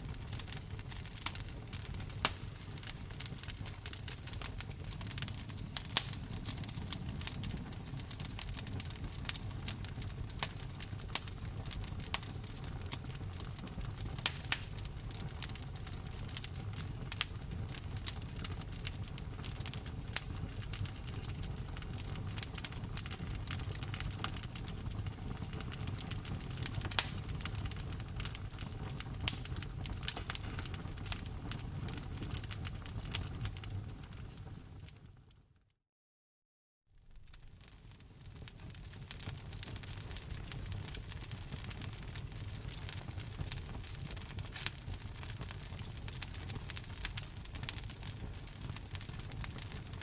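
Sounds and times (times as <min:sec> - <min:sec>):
wood fire crackling: 0:00.0 - 0:35.4, 0:37.0 - 0:50.0.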